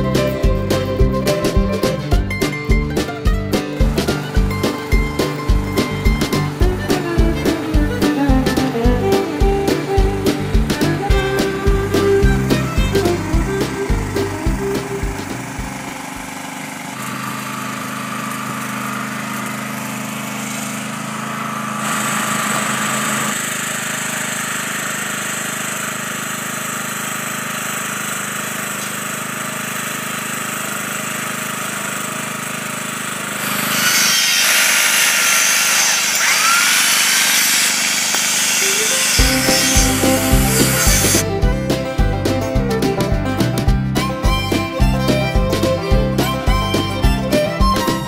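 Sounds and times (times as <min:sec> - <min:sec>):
machinery running: 0:00.0 - 0:25.2, 0:33.3 - 0:48.0
power tool working on steel post: 0:00.0 - 0:42.9.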